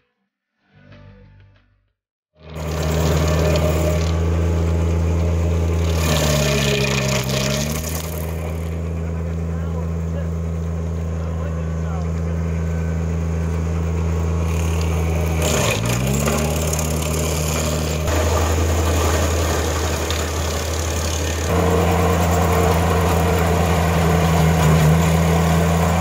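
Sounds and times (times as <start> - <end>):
stump grinder cutting wood: 2.4 - 26.0
tractor diesel engine under load: 2.4 - 26.0.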